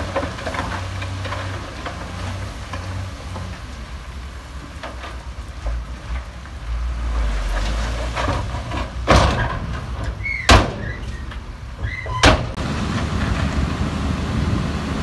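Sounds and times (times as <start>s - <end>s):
bulldozer engine rumbling: 0.0s - 15.0s.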